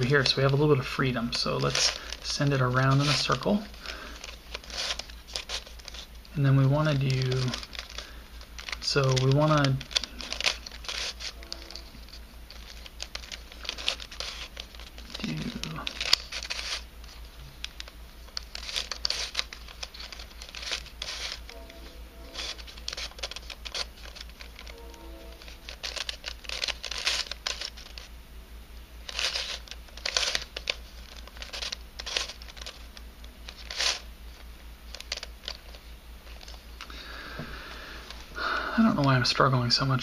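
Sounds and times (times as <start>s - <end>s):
puzzle pieces scraping and clicking: 0.0s - 21.6s, 22.3s - 28.1s, 29.0s - 34.1s, 34.9s - 36.9s
steady low hum: 0.0s - 40.0s.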